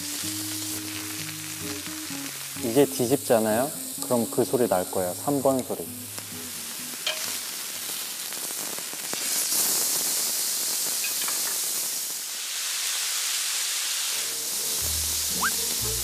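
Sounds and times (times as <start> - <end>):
meat sizzling on a grill pan: 0.0 - 16.0.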